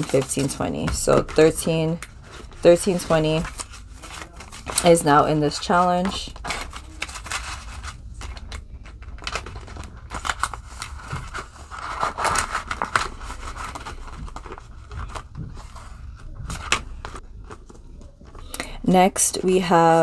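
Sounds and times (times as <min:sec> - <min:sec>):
banknotes rustling and crinkling: 0:00.0 - 0:20.0.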